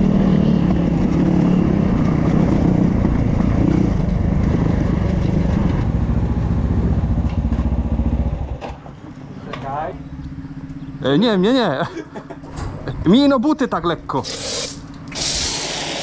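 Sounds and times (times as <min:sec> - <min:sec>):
motorcycle engine revving: 0:00.0 - 0:11.7, 0:14.2 - 0:16.0.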